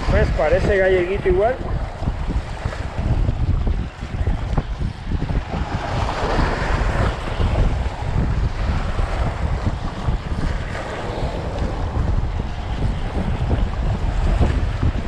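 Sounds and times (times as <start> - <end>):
waves washing against rocks: 0.0 - 15.0
wind buffeting microphone: 0.0 - 15.0.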